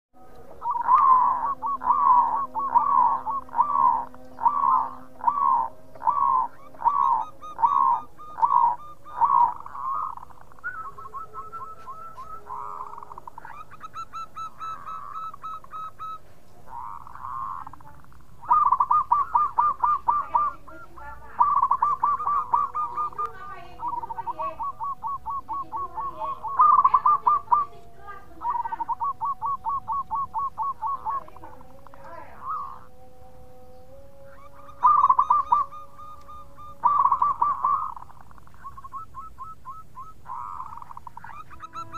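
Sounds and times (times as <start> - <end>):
dove cooing: 0.2 - 41.9.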